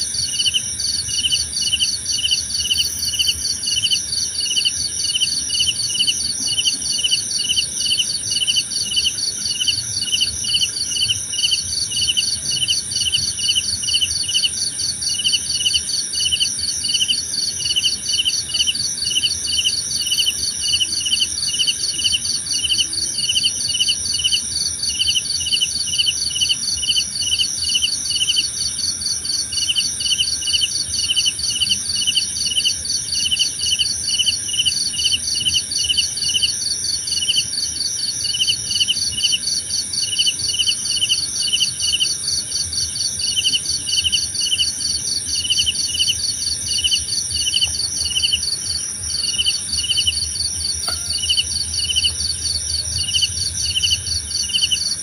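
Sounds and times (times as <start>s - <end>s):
continuous high insect trills: 0.0s - 55.0s
cricket chirping in regular pulse: 0.0s - 55.0s.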